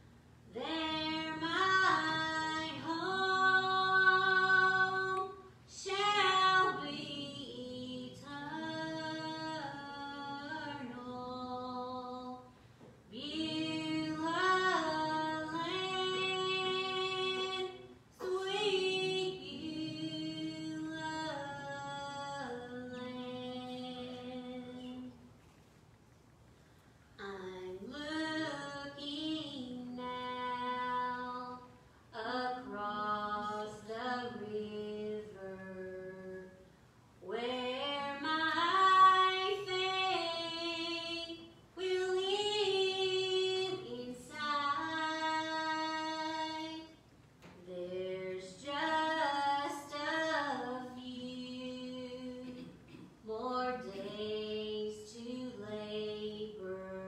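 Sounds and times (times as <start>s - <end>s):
woman singing unaccompanied: 0.5s - 12.5s, 13.1s - 25.3s, 27.2s - 57.0s.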